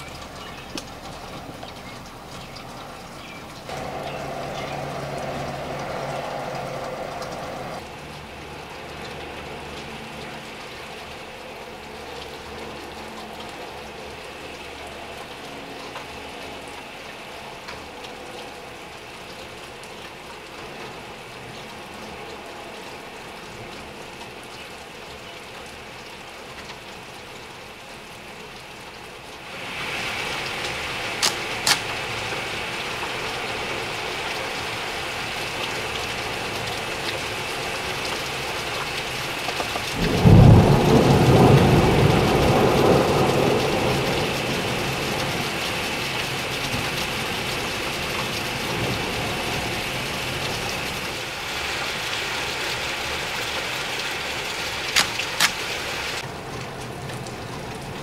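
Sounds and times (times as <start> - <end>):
rain on window pane: 0.0 - 58.0.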